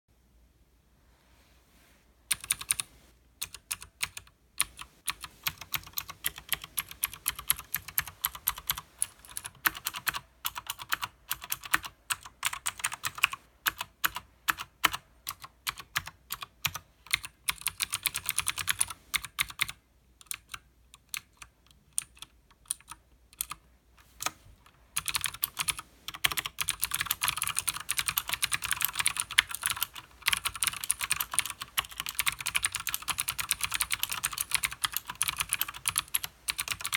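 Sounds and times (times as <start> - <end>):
mechanical keyboard typing: 2.3 - 23.6, 25.0 - 36.9.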